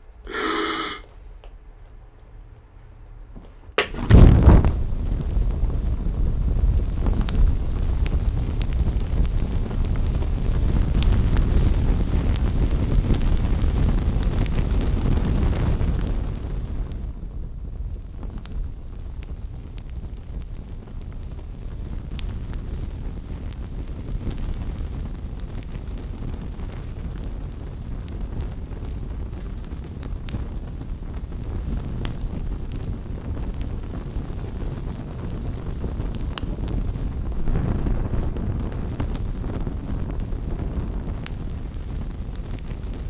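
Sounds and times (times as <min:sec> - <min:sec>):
crackles and clicks: 0:00.3 - 0:43.0
low wind-like rumble: 0:04.1 - 0:43.0.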